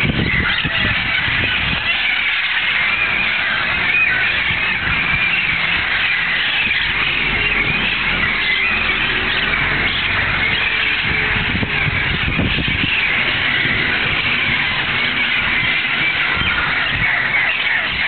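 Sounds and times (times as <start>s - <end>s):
parrots squawking: 0.0s - 18.0s.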